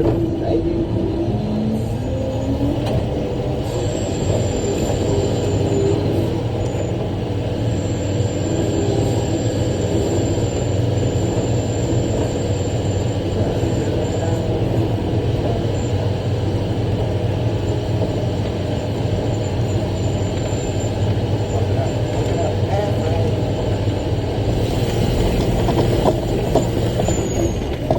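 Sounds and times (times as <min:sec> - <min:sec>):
truck diesel engine hum: 0:00.0 - 0:27.9.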